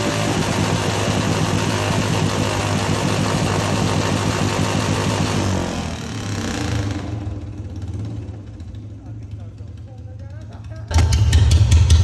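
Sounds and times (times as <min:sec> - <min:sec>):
motorcycle engine revving: 0:00.0 - 0:09.6, 0:10.9 - 0:12.0.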